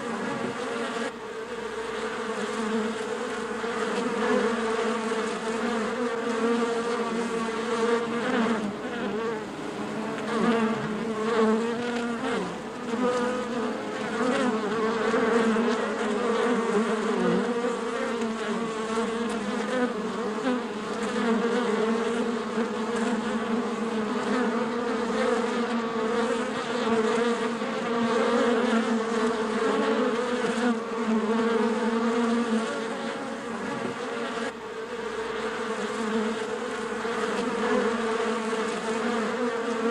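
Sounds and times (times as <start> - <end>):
bees buzzing in a hive: 0.0 - 39.9.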